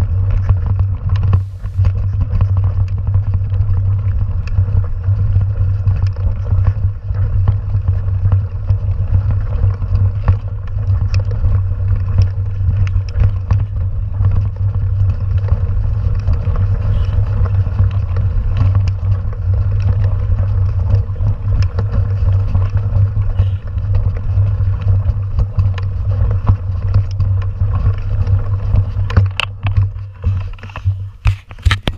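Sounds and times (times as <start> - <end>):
bike clicks and rattles: 0.0 - 31.9
bike tyres on gravel: 0.0 - 31.9
wind buffeting microphone: 0.0 - 31.9.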